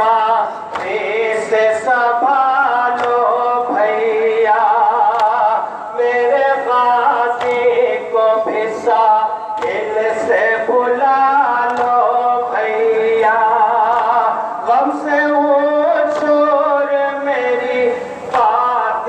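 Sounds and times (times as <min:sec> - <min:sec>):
man singing lament into microphone: 0:00.0 - 0:19.0.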